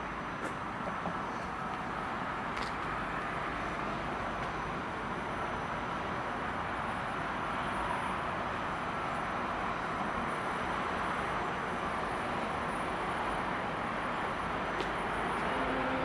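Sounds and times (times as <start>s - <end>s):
train wheels rushing on track: 0.0s - 16.0s.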